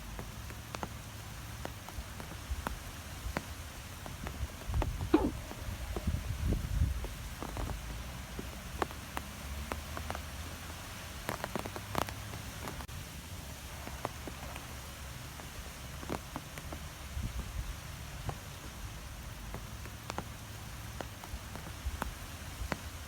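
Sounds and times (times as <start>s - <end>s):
light ticks and patters: 0.0s - 23.0s
wind rumbling in trees: 0.0s - 23.0s.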